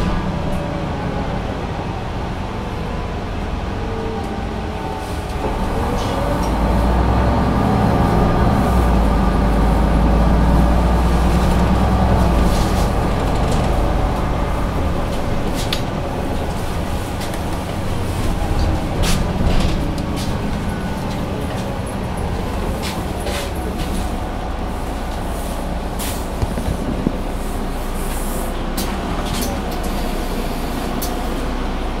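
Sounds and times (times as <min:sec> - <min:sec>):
bus engine droning: 0:00.0 - 0:32.0.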